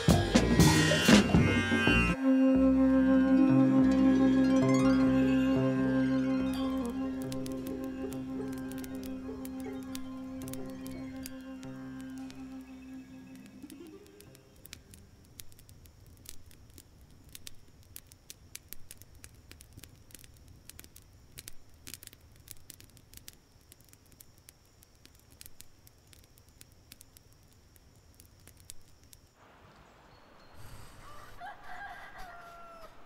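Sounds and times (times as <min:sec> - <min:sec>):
wood fire crackling: 0:03.6 - 0:30.5.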